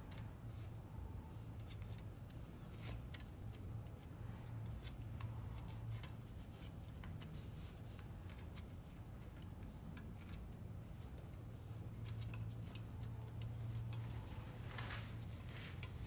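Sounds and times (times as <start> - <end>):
light clicks of parts handled: 1.6 - 16.0.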